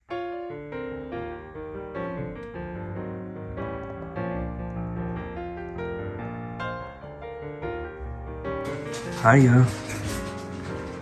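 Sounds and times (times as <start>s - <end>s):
piano music: 0.1s - 11.0s.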